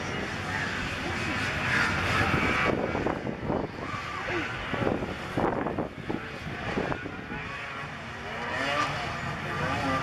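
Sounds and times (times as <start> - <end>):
snowmobile engines revving: 0.0 - 10.0.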